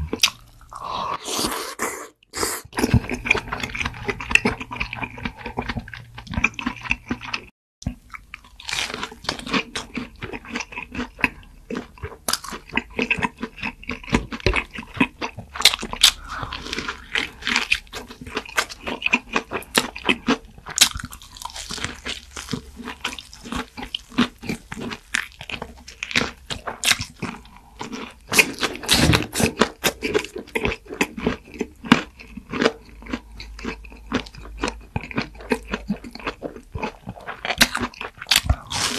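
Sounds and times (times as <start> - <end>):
person crunching and chewing food: 0.0 - 38.9.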